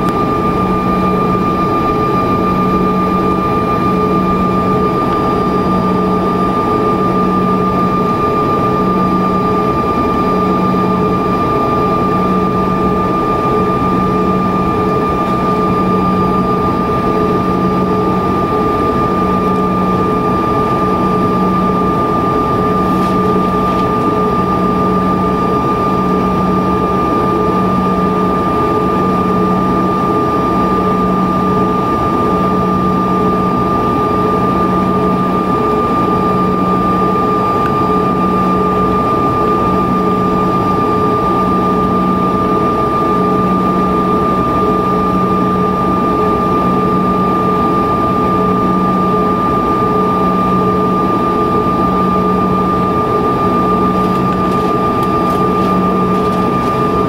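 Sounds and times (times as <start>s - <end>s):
jet engine whine and drone: 0.0s - 57.0s.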